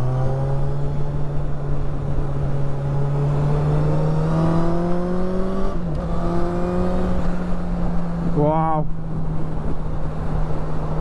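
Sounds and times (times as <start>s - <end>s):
motorcycle engine accelerating: 0.0s - 11.0s
wind noise: 0.0s - 11.0s.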